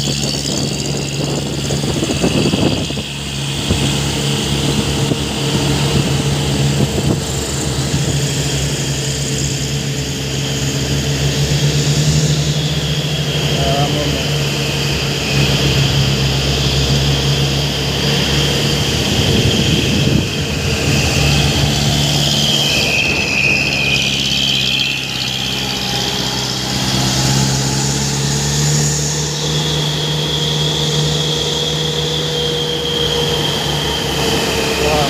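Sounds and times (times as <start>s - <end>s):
high steady tone: 0.0s - 35.0s
truck engine idling: 0.0s - 35.0s.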